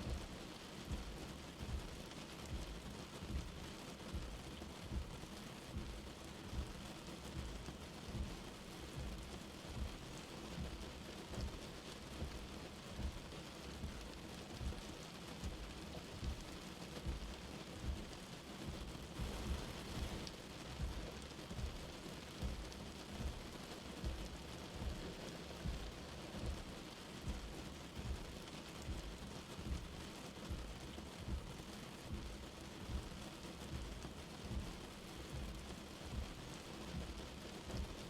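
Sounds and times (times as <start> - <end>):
light rain falling: 0.0 - 38.0
soft low thumps: 0.0 - 38.0.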